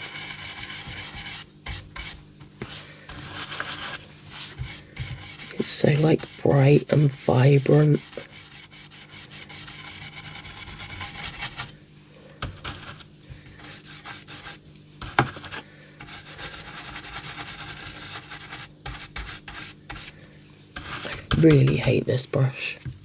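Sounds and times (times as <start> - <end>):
brush scrubbing on card: 0.0 - 11.7, 12.6 - 13.0, 13.6 - 20.2, 20.8 - 22.0.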